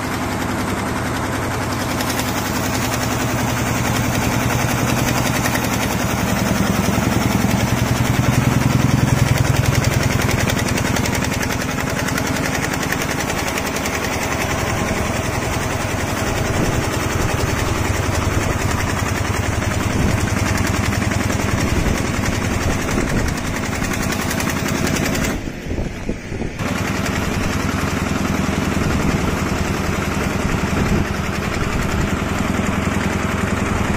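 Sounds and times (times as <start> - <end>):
quilting machine rattling: 0.0 - 33.9.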